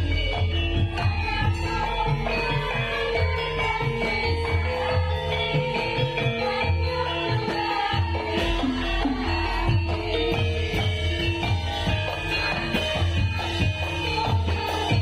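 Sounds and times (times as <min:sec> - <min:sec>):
ringing metallophone notes: 0:00.0 - 0:15.0.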